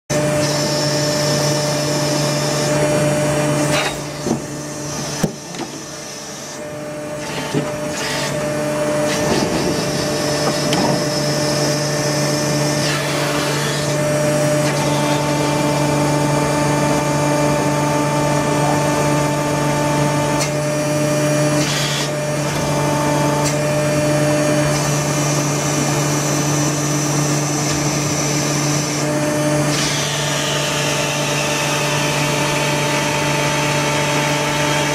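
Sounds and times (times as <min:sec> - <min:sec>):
machine humming: 0:00.1 - 0:34.9.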